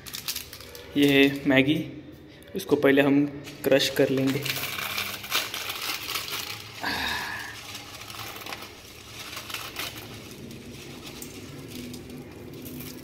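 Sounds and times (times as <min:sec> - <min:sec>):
dry noodles crackling and crunching: 0:00.0 - 0:01.6, 0:03.4 - 0:13.0.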